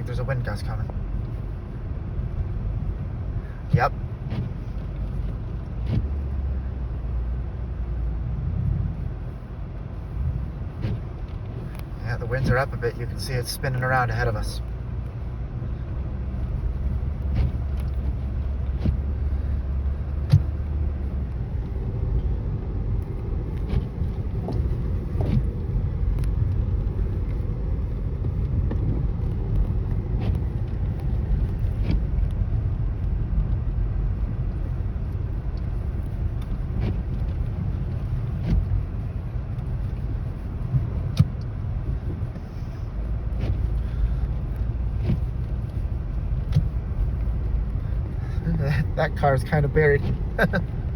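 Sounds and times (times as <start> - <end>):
engine and tyre rumble: 0.0 - 50.9.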